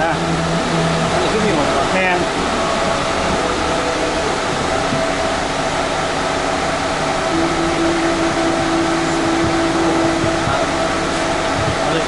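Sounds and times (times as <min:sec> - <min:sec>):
fan-like whooshing noise: 0:00.0 - 0:12.0
mid-low hum tone: 0:00.0 - 0:12.0.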